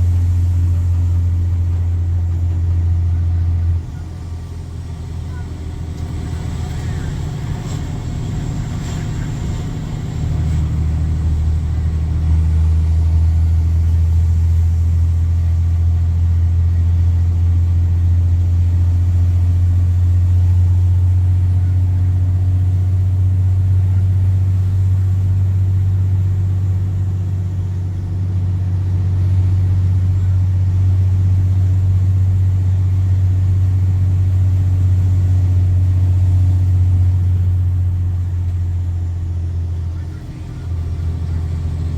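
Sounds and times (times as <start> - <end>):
diesel exhaust drone under load: 0.0 - 41.9.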